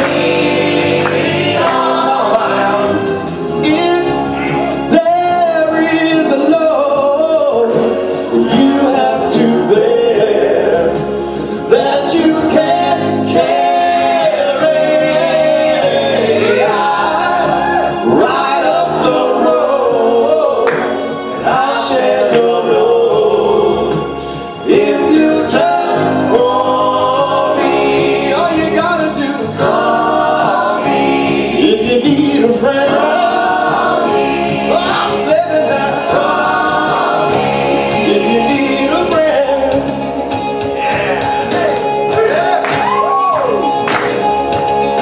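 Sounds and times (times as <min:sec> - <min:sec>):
vocal ensemble singing: 0:00.0 - 0:45.0.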